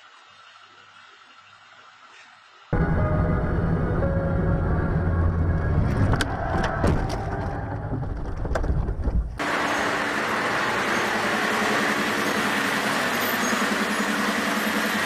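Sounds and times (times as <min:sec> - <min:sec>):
car engine and road rumble: 0:02.8 - 0:15.0.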